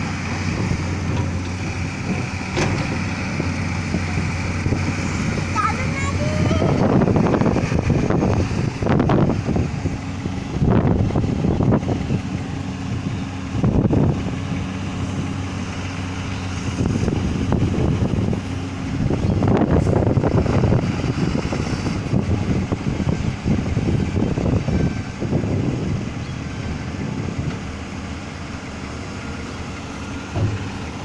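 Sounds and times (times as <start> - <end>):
vehicle engine running: 0.0 - 31.0
wind buffeting microphone: 0.0 - 31.0.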